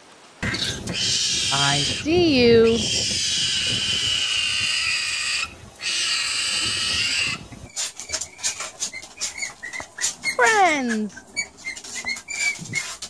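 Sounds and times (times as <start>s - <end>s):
skunk screaming: 0.4s - 13.0s.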